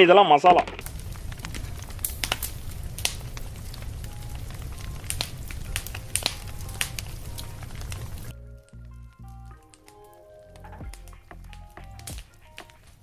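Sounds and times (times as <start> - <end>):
campfire crackling: 0.0 - 13.0
sharp pops of fire: 0.4 - 8.8, 9.5 - 13.0
low fire rumble: 0.4 - 13.0.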